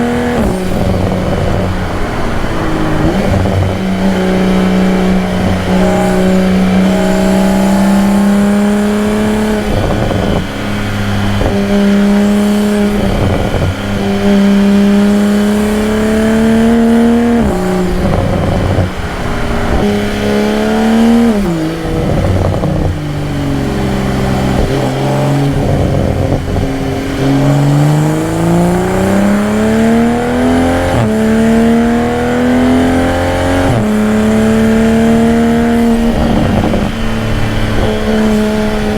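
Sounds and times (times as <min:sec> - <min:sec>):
car engine while driving: 0:00.0 - 0:38.9.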